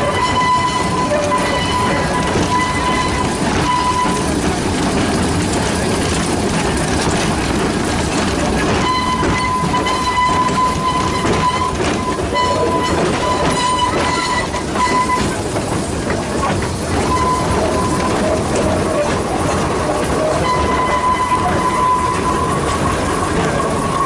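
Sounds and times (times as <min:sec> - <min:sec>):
model train wheels rattling: 0:00.0 - 0:24.0.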